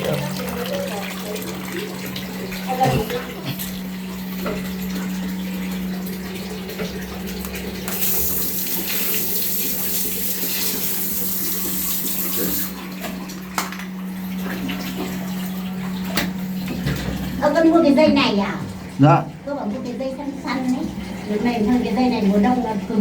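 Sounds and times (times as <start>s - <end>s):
water running from faucet: 0.0s - 23.0s.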